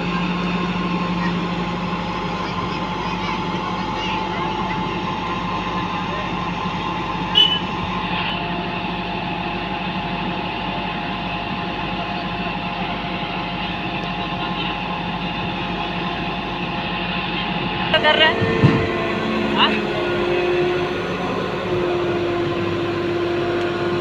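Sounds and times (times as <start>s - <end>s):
diesel engine running steadily: 0.0s - 24.0s.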